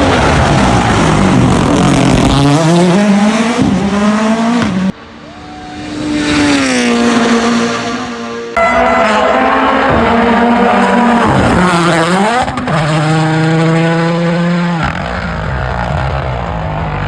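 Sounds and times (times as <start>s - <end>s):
rally car engine accelerating: 0.0s - 5.1s, 5.7s - 17.0s
rally car passing by: 0.0s - 17.0s.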